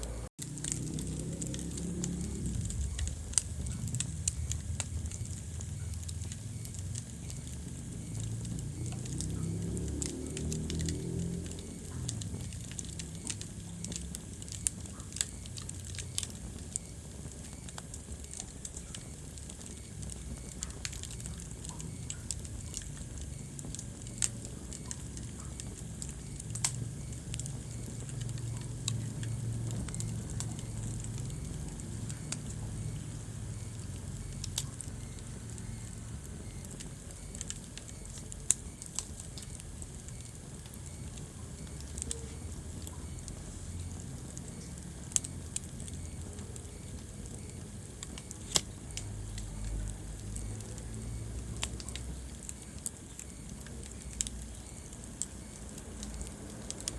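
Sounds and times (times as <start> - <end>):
low steady rumble: 0.0 - 56.9
wood fire crackling: 0.0 - 56.9.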